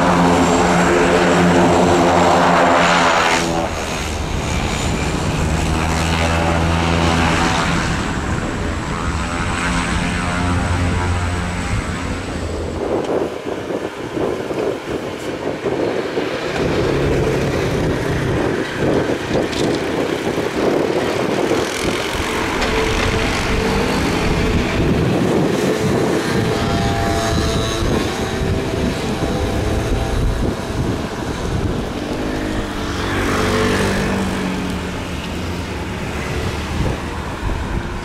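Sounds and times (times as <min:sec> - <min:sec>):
propeller plane engine: 0:00.0 - 0:38.0
road traffic noise: 0:00.0 - 0:38.0.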